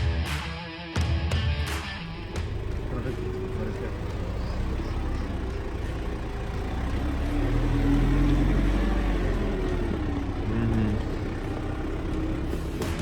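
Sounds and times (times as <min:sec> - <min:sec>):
vehicle engine revving: 0:02.0 - 0:13.0.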